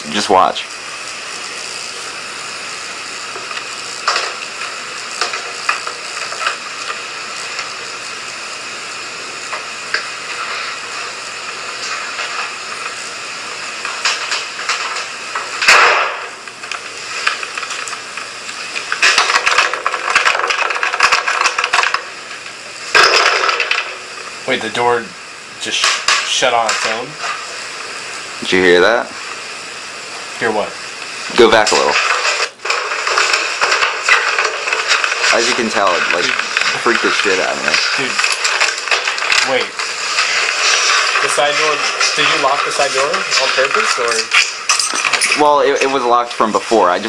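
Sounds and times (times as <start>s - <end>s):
steady hiss: 0.0s - 47.0s.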